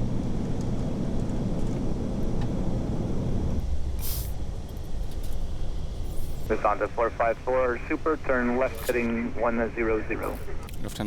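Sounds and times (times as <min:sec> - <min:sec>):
low rumble of flight noise: 0:00.0 - 0:11.0.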